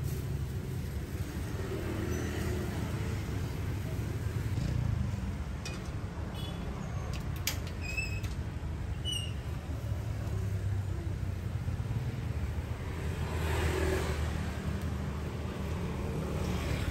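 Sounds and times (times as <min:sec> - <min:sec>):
street traffic rumble: 0:00.0 - 0:16.9.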